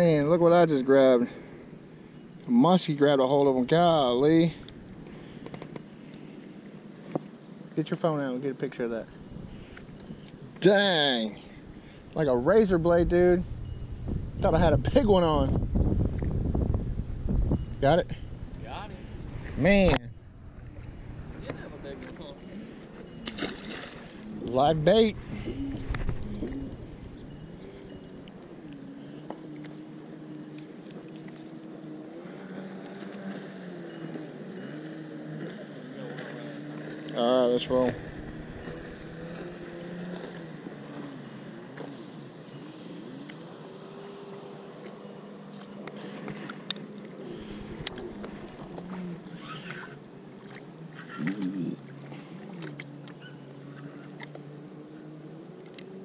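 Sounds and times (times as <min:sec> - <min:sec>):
boat motor humming: 0:00.0 - 0:56.0.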